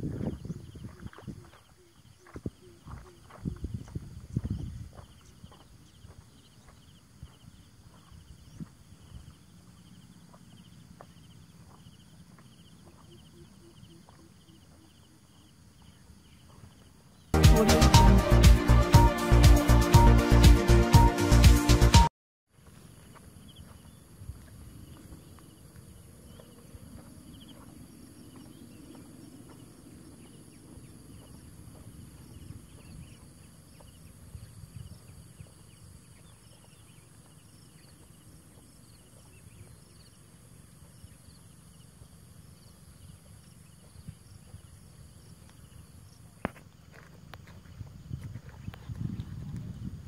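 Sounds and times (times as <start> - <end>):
footsteps on dirt path: 0.0 - 17.0, 22.5 - 50.0
insects chirping: 0.0 - 17.4, 22.5 - 50.0.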